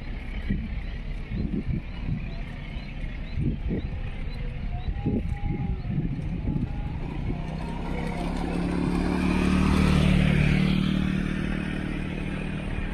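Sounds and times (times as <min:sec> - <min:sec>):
motor scooter passing by: 0:00.0 - 0:12.9.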